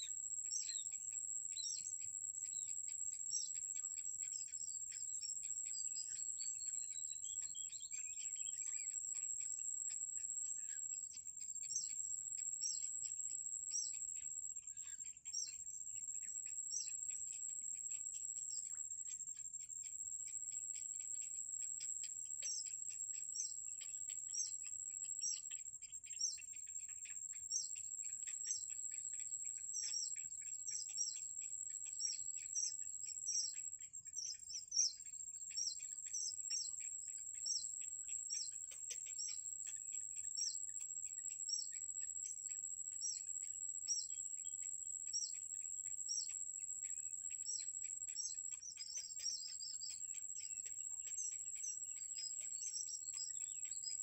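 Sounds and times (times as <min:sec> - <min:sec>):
bird chicks chirping: 0:00.0 - 0:54.0.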